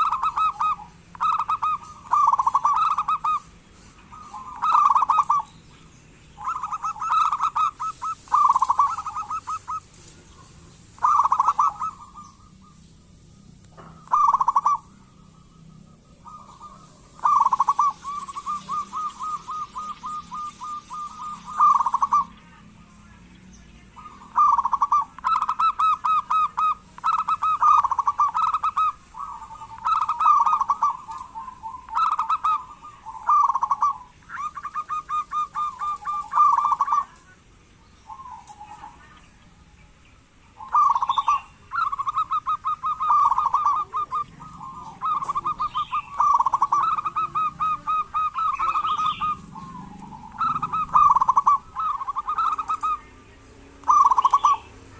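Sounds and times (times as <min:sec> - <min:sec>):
doves calling: 0:00.0 - 0:54.9.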